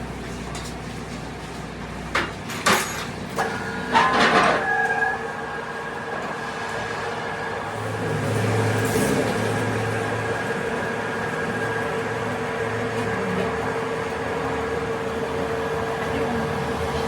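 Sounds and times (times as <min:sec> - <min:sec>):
machine whine: 0:02.9 - 0:17.0.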